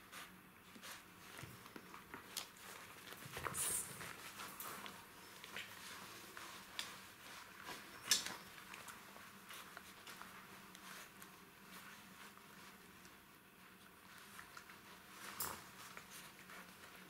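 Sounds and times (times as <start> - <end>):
puppies scuffling: 0.0 - 17.0.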